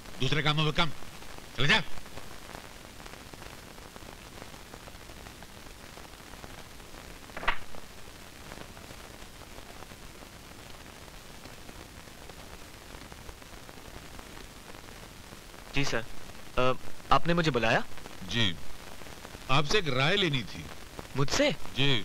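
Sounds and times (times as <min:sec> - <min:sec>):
old film soundtrack hiss: 0:00.0 - 0:22.0.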